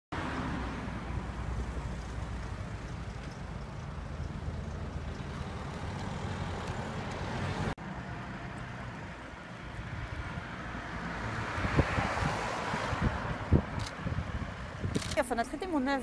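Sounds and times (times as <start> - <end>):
street traffic rumble: 0.1 - 16.0.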